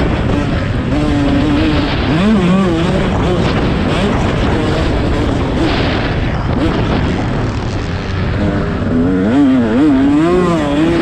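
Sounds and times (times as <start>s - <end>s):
loud rushing noise: 0.0s - 11.0s
motorcycle engine revving: 0.0s - 11.0s.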